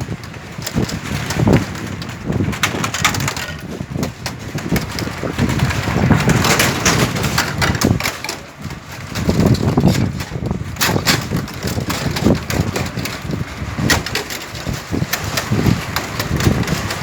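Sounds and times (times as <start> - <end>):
wooden planks clattering under bicycle: 0.0 - 17.0.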